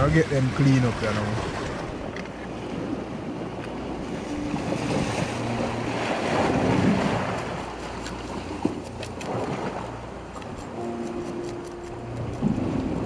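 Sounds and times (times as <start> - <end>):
waves on rocky shore: 0.0 - 13.0
wind buffeting microphone: 0.0 - 13.0.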